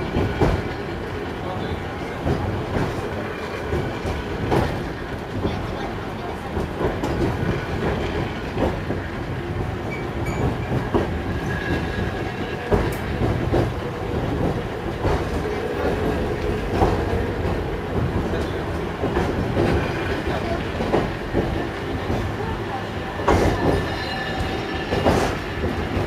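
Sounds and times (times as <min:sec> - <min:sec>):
wheels rumbling on rails: 0:00.0 - 0:26.0.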